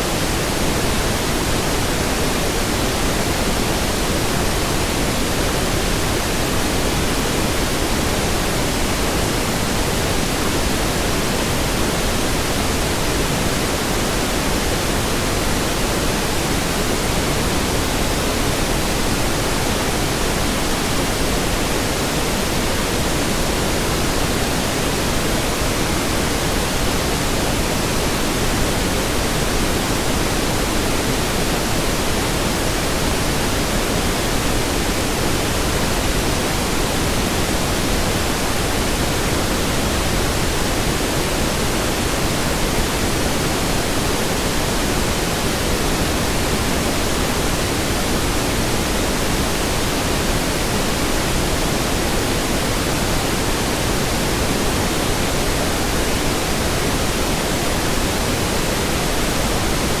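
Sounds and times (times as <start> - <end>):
pink noise hiss: 0.0 - 60.0.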